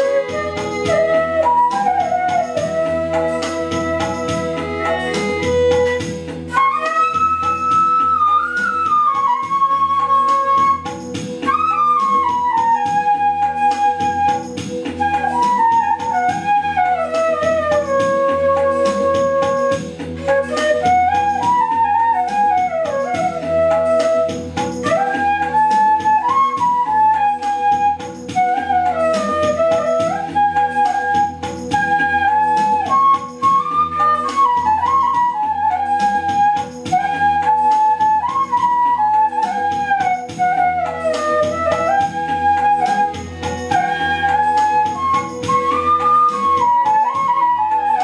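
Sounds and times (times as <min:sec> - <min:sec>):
bamboo flute melody: 0:00.0 - 0:48.0.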